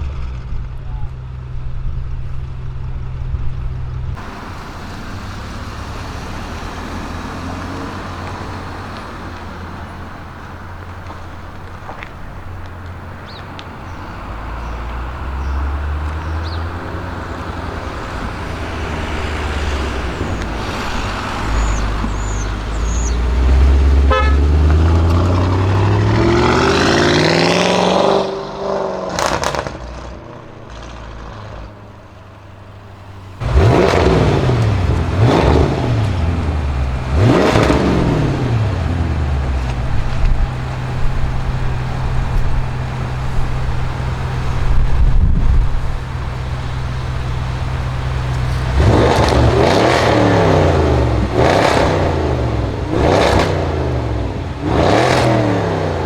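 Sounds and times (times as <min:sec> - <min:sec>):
car engine idling: 0:00.0 - 0:26.9, 0:30.4 - 0:56.0
exhaust crackles: 0:00.0 - 0:56.0
car engine revving: 0:03.7 - 0:56.0.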